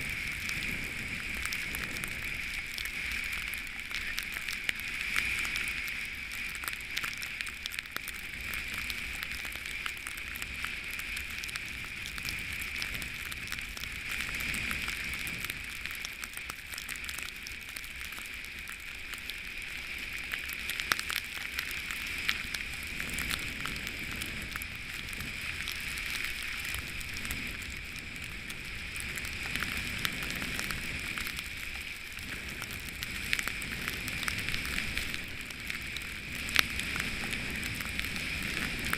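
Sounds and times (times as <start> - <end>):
snow spray crackling on camera: 0.0 - 38.9.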